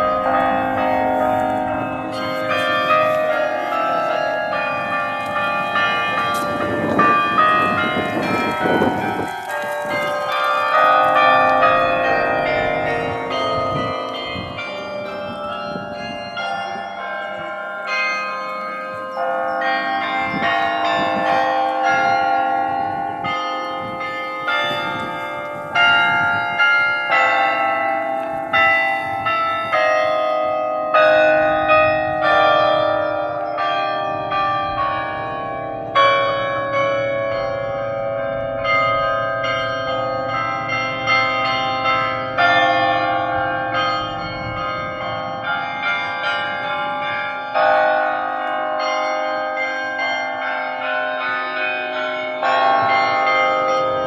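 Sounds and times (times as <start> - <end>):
carillon bells playing a tune: 0.0 - 54.0.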